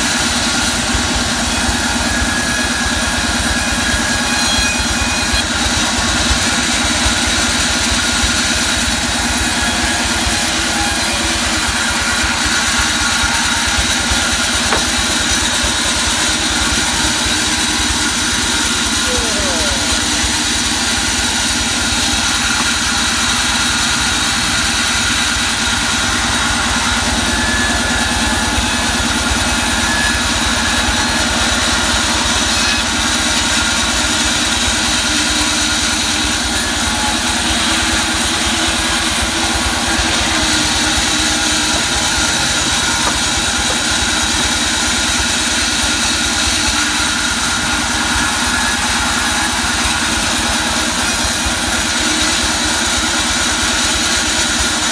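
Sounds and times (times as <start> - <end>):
band saw cutting wood: 0.0 - 54.9.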